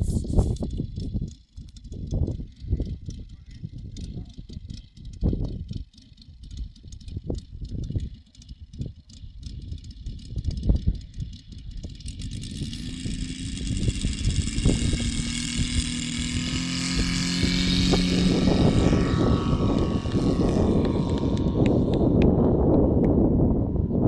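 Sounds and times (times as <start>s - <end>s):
model plane engine revving: 0.0s - 23.0s
wind rumbling on microphone: 0.0s - 24.0s.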